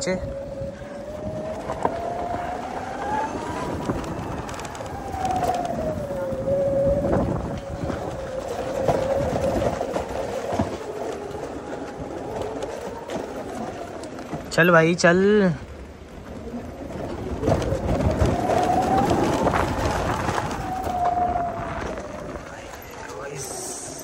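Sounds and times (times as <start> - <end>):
electric scooter motor whining: 0.0 - 24.0.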